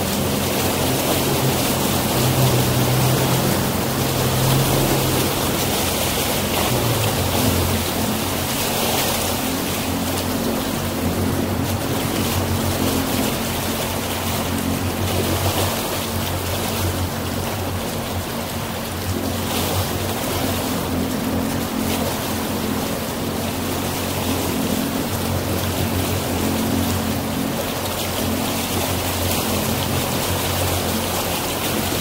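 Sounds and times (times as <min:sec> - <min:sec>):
motorboat engine running: 0:00.0 - 0:32.0
rushing water: 0:00.0 - 0:32.0
wind: 0:00.0 - 0:32.0.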